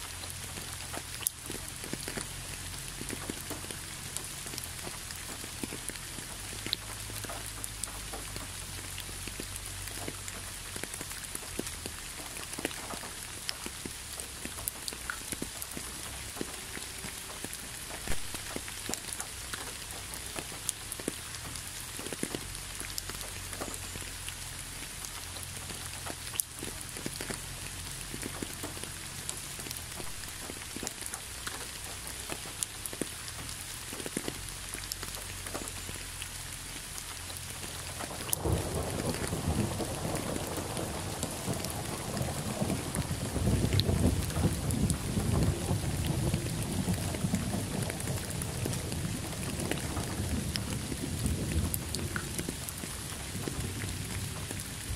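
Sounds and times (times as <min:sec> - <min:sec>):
gentle rain on road: 0:00.0 - 0:54.9
raindrops tapping: 0:00.0 - 0:54.9.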